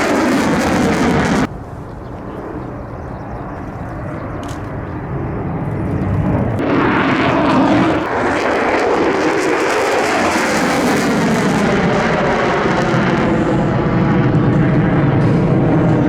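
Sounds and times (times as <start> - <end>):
fighter jet engine roar: 0.0 - 16.0.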